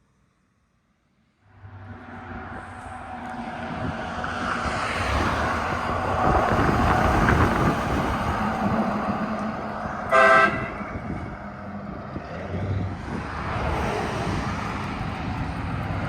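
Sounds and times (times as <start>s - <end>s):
train rumbling and rolling: 1.5s - 16.0s.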